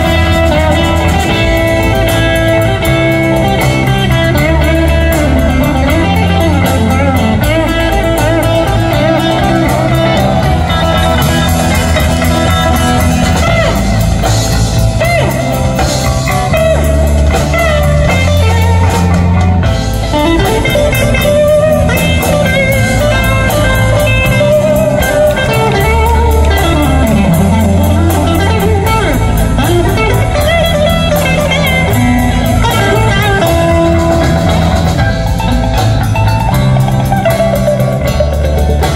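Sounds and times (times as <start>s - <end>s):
drum kit beat: 0.0s - 38.9s
electric bass: 0.0s - 38.9s
electric guitar solo: 0.0s - 38.9s.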